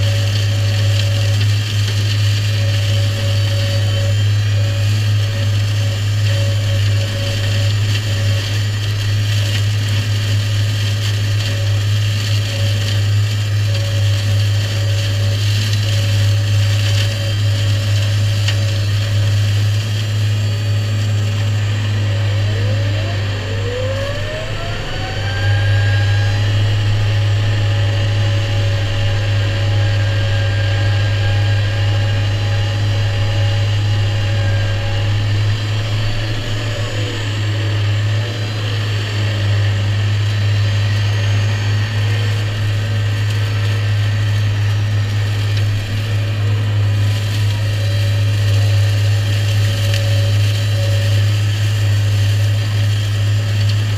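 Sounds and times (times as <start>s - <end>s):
flail mower cutting grass: 0.0s - 53.9s
rising whine: 0.0s - 53.9s.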